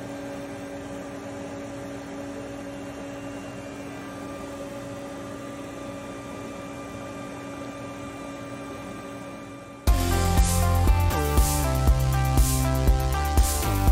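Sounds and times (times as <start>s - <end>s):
machine hum with steady tones: 0.0s - 13.9s.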